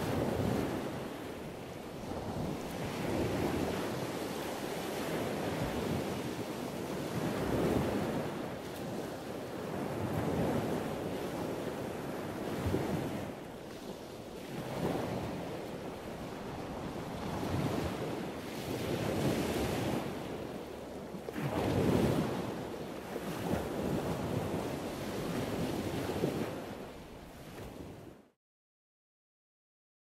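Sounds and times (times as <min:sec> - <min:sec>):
wind rushing over microphone: 0:00.0 - 0:20.6, 0:21.3 - 0:28.2.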